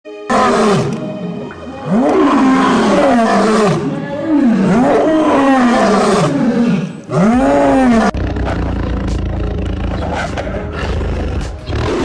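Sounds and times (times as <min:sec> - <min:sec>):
big cat calling: 0:01.7 - 0:12.0
noisy animal sound: 0:01.8 - 0:12.0.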